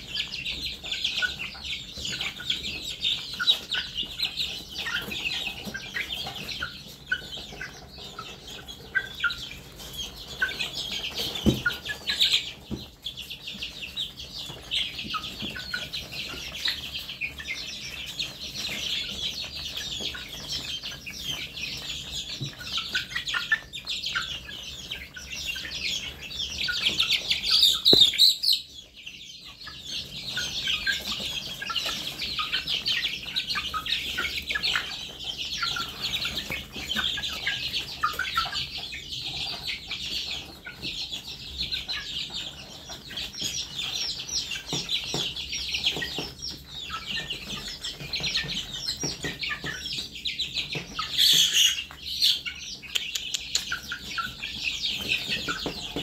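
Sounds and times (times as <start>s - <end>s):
young chickens peeping: 0.0s - 56.0s.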